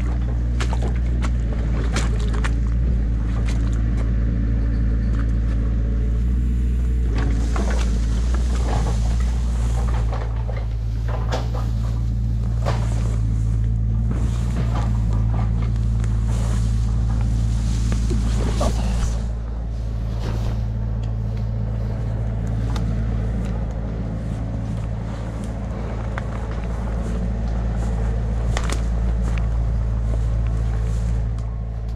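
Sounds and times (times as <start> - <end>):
engine idling: 0.0 - 31.9
tall grass rustling: 5.8 - 31.9
footsteps through grass: 6.1 - 31.9.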